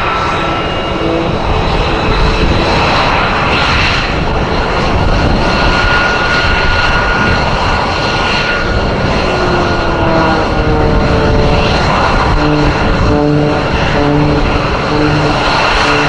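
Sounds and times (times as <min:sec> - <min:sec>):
aircraft roar: 0:00.0 - 0:16.0
high whine: 0:00.0 - 0:16.0.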